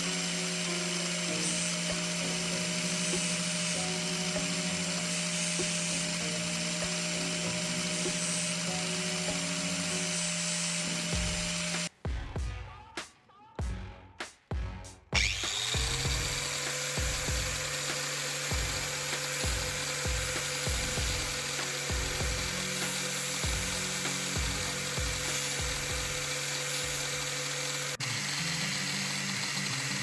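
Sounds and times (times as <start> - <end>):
power tool motor whine: 0.0 - 11.9, 15.2 - 30.0
background music: 0.0 - 30.0.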